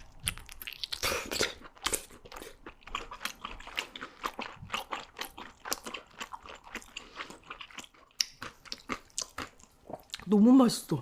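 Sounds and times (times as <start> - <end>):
crunchy wet chewing: 0.0 - 10.3.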